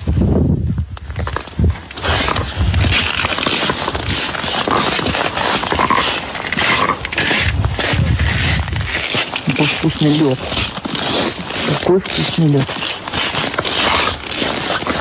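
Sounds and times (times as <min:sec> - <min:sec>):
crunching and scraping on ice: 0:01.0 - 0:15.0.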